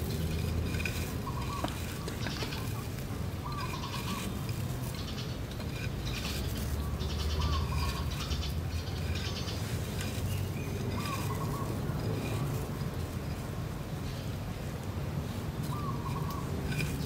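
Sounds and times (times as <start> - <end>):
birds chirping and trilling: 0.0 - 14.6, 15.2 - 17.0.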